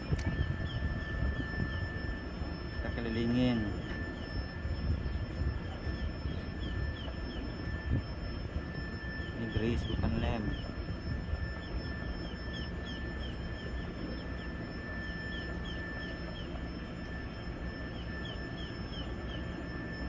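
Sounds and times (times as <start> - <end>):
faint steady high tone: 0.0 - 20.0
steady low rumble: 0.0 - 20.0.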